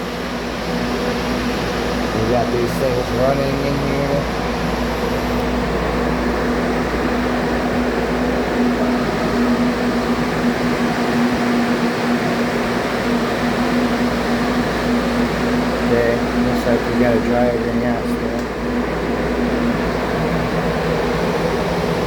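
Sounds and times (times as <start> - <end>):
air blowers rushing: 0.0 - 22.0
steady hum: 0.0 - 22.0.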